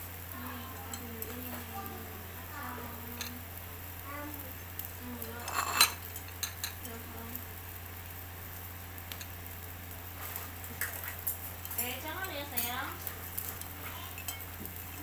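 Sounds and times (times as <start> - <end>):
skewers grilling over charcoal: 0.0 - 15.0
faint crackle and ticks: 0.3 - 15.0.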